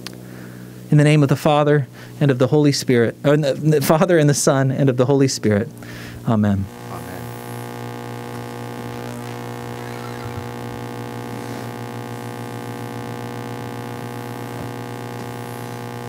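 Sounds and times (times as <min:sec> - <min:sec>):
electrical hum and buzz: 0:00.0 - 0:16.0.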